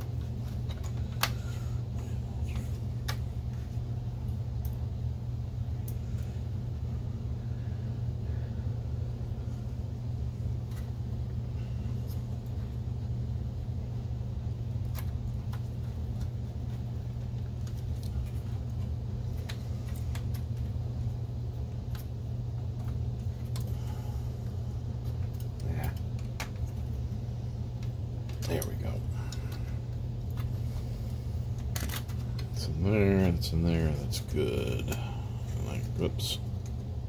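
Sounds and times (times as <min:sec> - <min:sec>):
room hum: 0:00.0 - 0:37.0.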